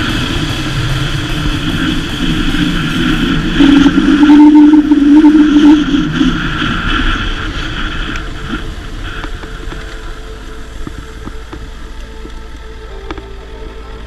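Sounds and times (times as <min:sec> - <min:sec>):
wind rush: 0:00.0 - 0:14.0.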